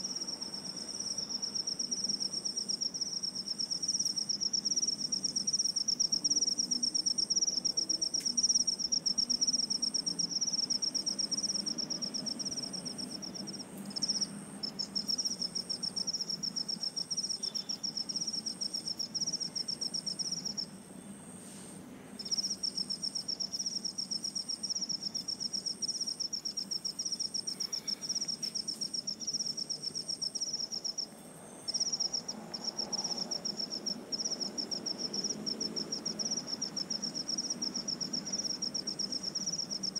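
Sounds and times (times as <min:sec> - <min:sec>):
insect fast pulsed trill: 0:00.0 - 0:21.3, 0:22.2 - 0:39.9
faint high insect chirp: 0:00.0 - 0:39.9.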